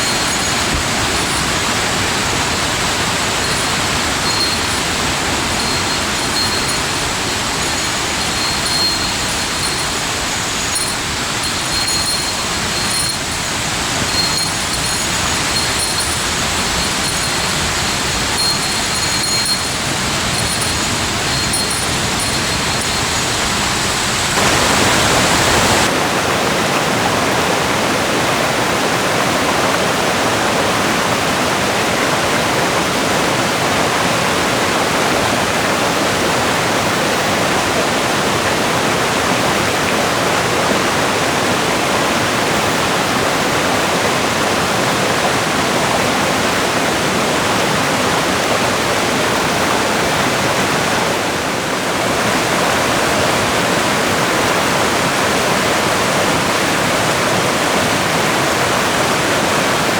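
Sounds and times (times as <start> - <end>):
rushing mountain stream: 0.0 - 59.9
waterfall: 0.0 - 59.9.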